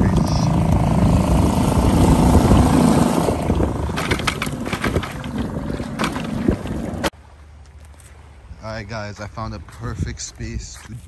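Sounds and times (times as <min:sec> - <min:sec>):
wind buffeting microphone: 0:00.0 - 0:07.1, 0:08.3 - 0:11.0
waves slapping canoe hull: 0:00.0 - 0:11.0.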